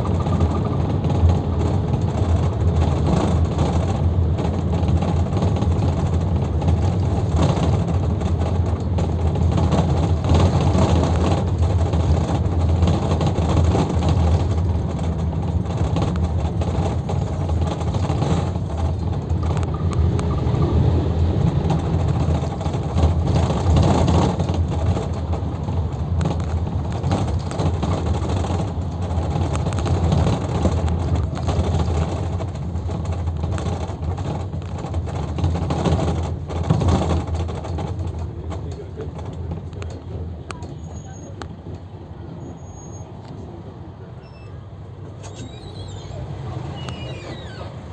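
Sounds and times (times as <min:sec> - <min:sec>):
bus engine drone: 0:00.0 - 0:47.9
road and tyre noise: 0:00.0 - 0:47.9.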